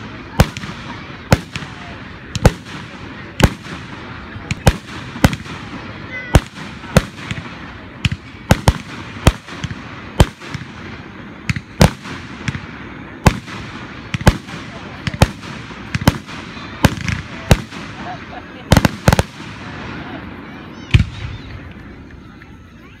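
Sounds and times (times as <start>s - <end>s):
fireworks bangs: 0.0s - 22.8s
steady background hiss: 0.0s - 23.0s.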